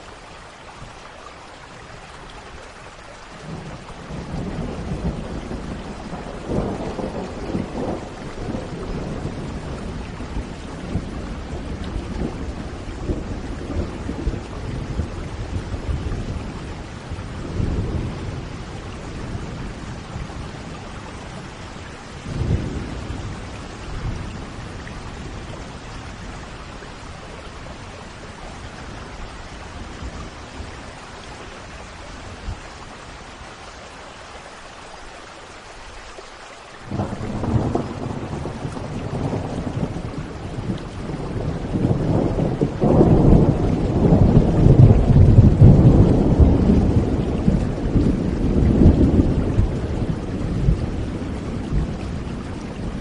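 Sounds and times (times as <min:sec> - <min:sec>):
steady rain falling: 0:00.0 - 0:53.0
thunder rumbling: 0:03.4 - 0:33.0, 0:36.9 - 0:53.0.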